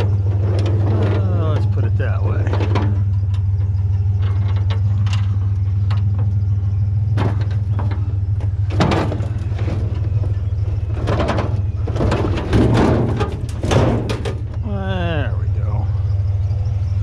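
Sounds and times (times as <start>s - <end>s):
scrap metal clanking and rattling: 0.0s - 14.7s
pickup truck engine idling: 0.0s - 17.0s.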